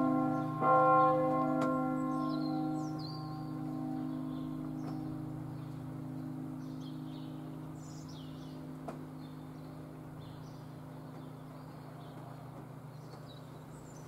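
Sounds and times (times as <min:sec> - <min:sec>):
church bells ringing: 0:00.0 - 0:12.9
small birds chirping: 0:00.0 - 0:14.0.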